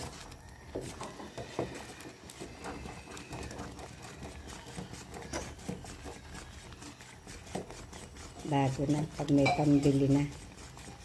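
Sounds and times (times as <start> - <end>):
utensil knocking and scraping pot: 0.0 - 11.0
utensil stirring paste in pot: 0.0 - 11.0.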